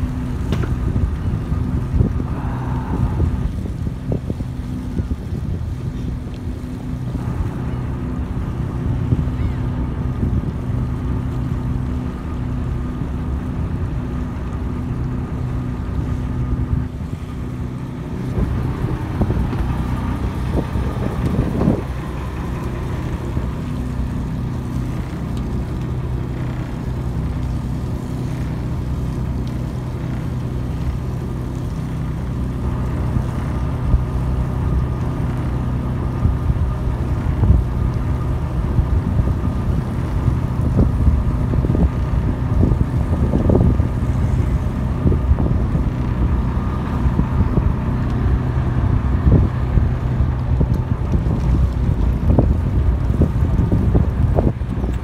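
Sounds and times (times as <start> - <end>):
boat engine humming: 0.0 - 55.0
wind on microphone: 0.0 - 55.0.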